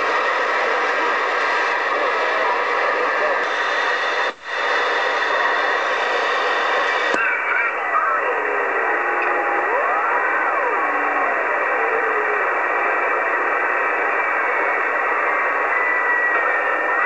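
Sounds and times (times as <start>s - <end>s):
gliding radio whistles: 0.0s - 17.0s
radio static hiss: 0.0s - 17.0s.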